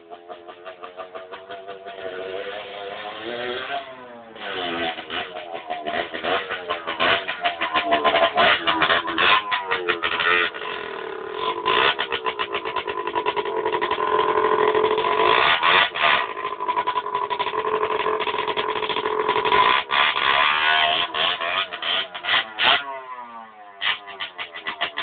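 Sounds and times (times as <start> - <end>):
two-stroke engine revving high: 0.0 - 25.0.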